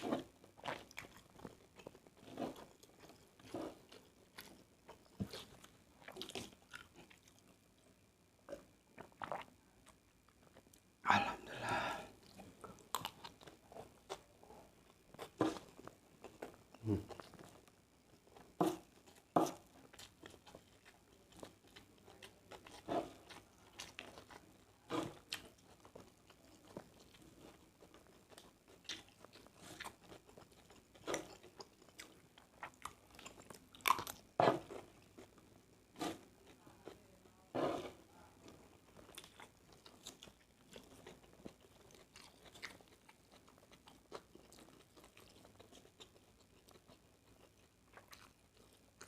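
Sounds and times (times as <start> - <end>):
person chewing food: 0.0 - 7.9, 8.5 - 49.0.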